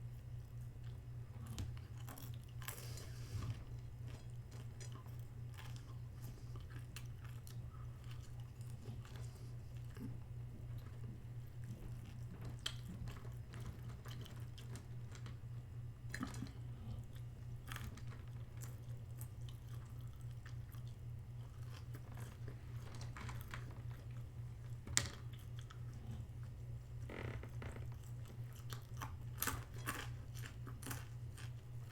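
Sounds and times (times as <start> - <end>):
person chewing food: 0.4 - 31.9.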